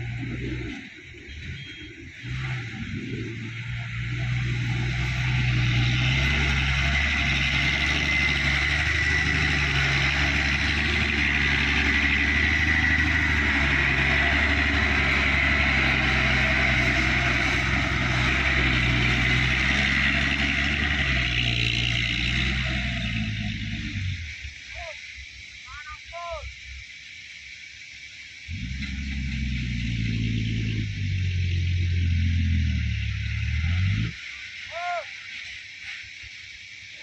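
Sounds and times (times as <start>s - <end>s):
diesel truck engine running: 0.0s - 24.7s, 28.4s - 34.3s
steady hiss: 0.0s - 37.0s.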